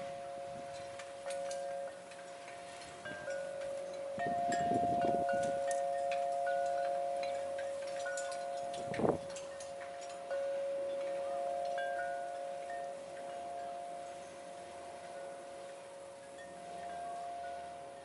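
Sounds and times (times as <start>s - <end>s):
wind chime ringing: 0.0s - 18.0s.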